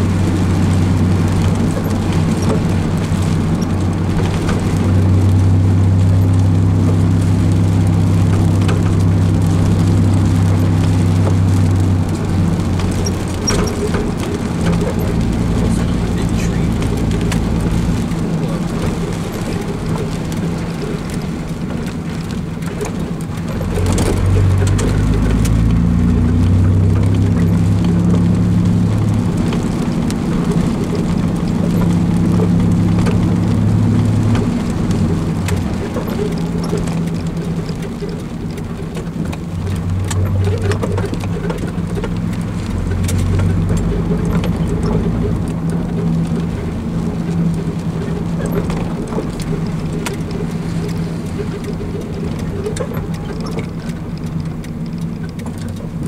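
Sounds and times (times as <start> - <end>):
car engine: 0.0 - 56.0
rain ticking on windshield: 0.0 - 56.0
tyres on wet road: 0.0 - 56.0.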